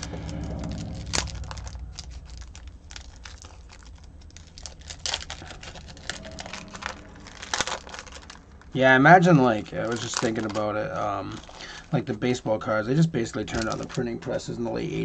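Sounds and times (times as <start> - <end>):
wrapper crinkling and tearing: 0.0 - 11.9, 13.3 - 14.5.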